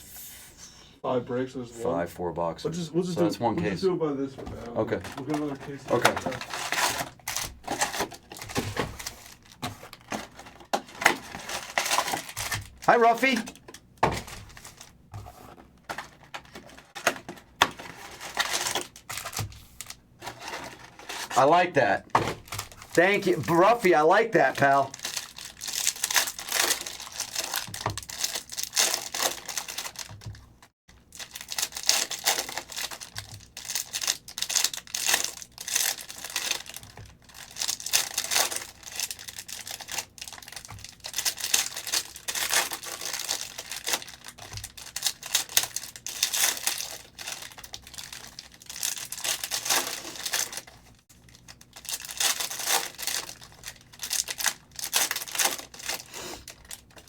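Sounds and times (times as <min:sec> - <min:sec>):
card pack wrappers crinkling: 0:04.5 - 0:15.0, 0:15.8 - 0:30.4, 0:31.0 - 0:57.0.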